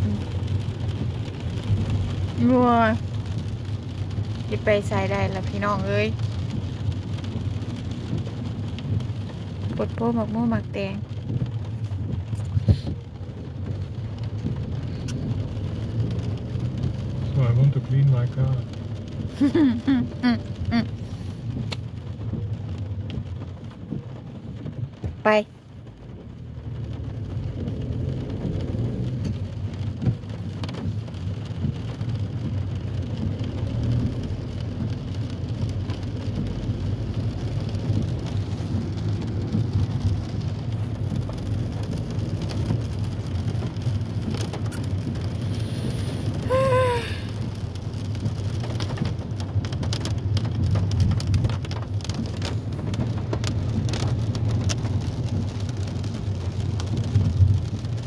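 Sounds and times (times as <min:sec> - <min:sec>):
car tyres rumbling on wet road: 0:00.0 - 0:58.0
rain on car body: 0:00.0 - 0:58.0.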